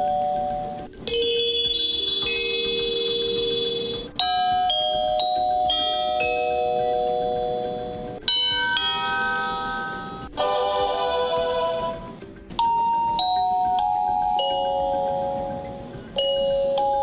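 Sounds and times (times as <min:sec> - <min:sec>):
electronic door chime tunes: 0:00.0 - 0:17.0.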